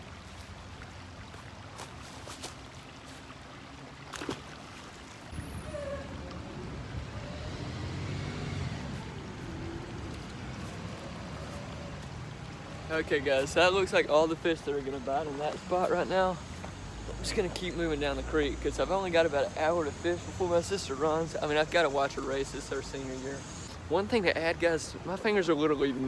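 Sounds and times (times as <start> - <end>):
creek water over rocks: 0.0 - 26.0.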